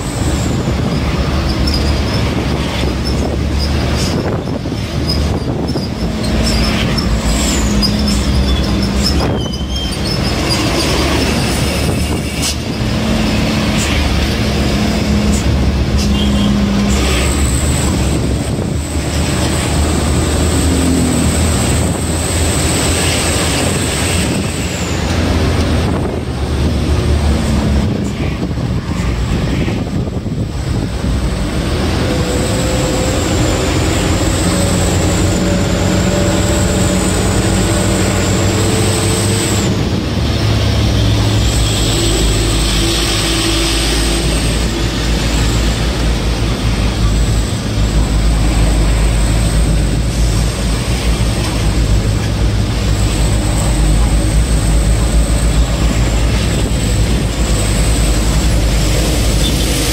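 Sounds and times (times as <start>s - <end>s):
truck engine drone: 0.0s - 59.9s.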